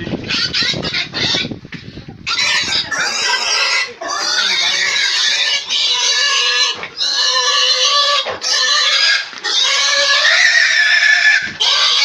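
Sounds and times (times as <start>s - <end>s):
pig squealing: 0.3s - 1.5s, 2.3s - 12.0s.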